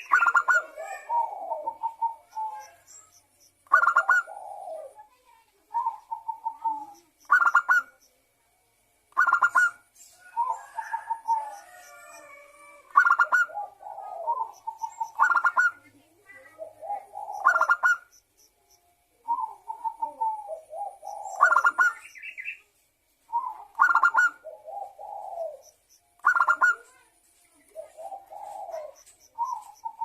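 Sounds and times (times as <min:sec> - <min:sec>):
dove cooing: 0:00.0 - 0:02.8, 0:03.6 - 0:05.1, 0:05.7 - 0:08.0, 0:09.2 - 0:18.1, 0:19.2 - 0:22.1, 0:23.3 - 0:27.0, 0:27.6 - 0:30.0.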